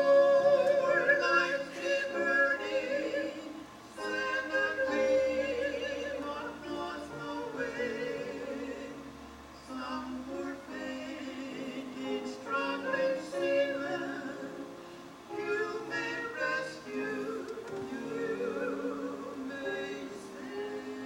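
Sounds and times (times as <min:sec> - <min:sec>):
voices singing a hymn: 0:00.0 - 0:21.0.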